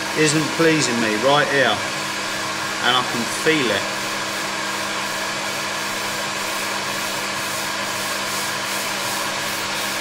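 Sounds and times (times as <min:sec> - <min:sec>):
electric fan motor running: 0:00.0 - 0:10.0.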